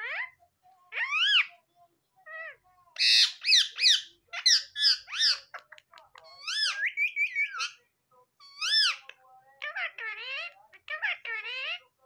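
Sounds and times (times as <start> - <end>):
parakeet squawking and chattering: 0.0 - 1.6, 2.2 - 12.0.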